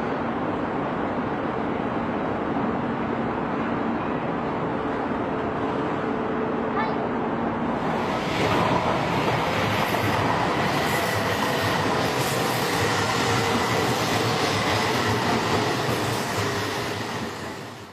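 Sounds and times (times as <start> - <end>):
train rolling rumble: 0.0 - 17.9.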